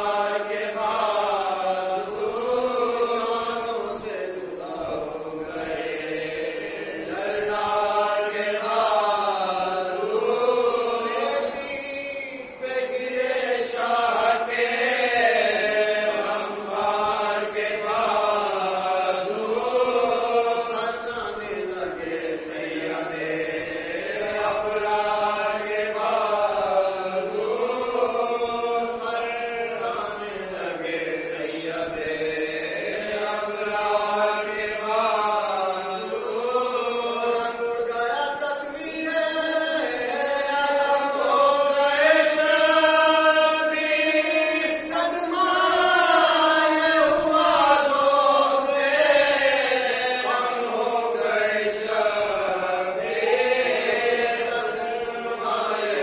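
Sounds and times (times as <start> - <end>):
men chanting in chorus: 0.0 - 56.0.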